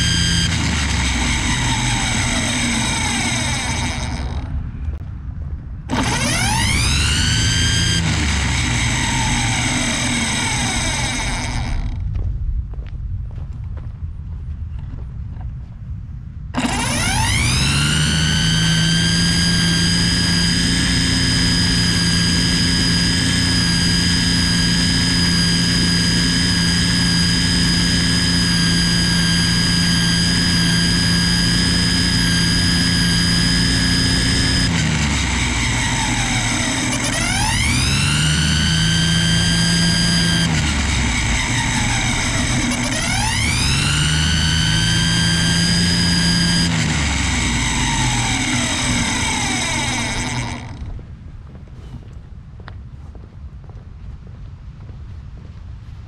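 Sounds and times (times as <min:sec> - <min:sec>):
string trimmer whining: 0:00.0 - 0:04.9, 0:05.9 - 0:12.1, 0:16.6 - 0:51.2.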